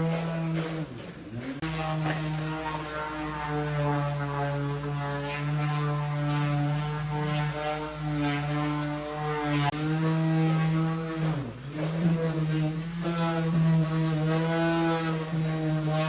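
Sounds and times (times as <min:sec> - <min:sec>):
power tool motor humming: 0:00.0 - 0:16.0.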